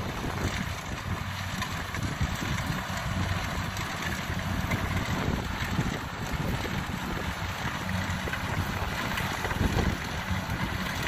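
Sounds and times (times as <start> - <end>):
harvester diesel engine running: 0.0 - 11.0
wind buffeting microphone: 0.0 - 11.0.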